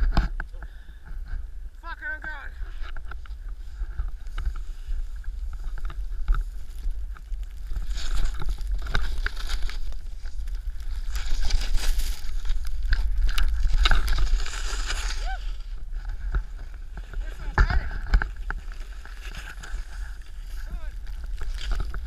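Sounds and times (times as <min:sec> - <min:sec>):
wind rumble on microphone: 0:02.5 - 0:22.0
snowboard scraping over snow: 0:03.5 - 0:22.0.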